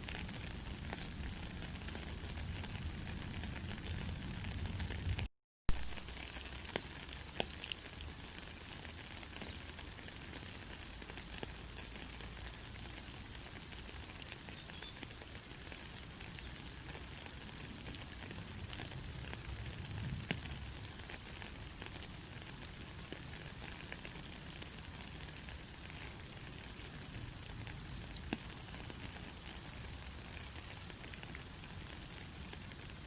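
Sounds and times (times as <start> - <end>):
faint crackles: 0.0 - 33.0.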